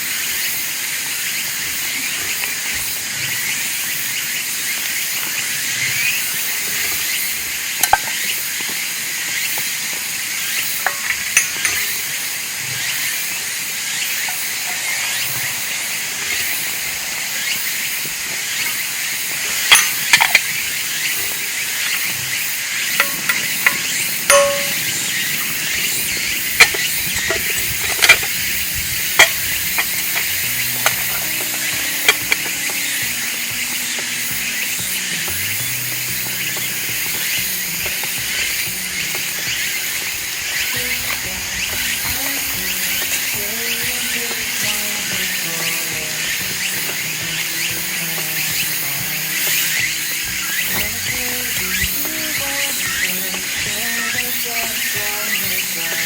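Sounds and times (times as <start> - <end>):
insects chorus: 0.0 - 56.0
sharp clicks and pops: 4.8 - 15.4, 17.4 - 56.0.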